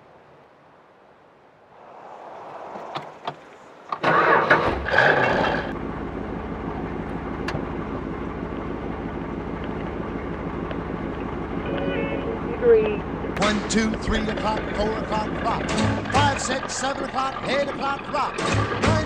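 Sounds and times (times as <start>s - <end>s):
car engine starting and idling: 2.8s - 19.0s.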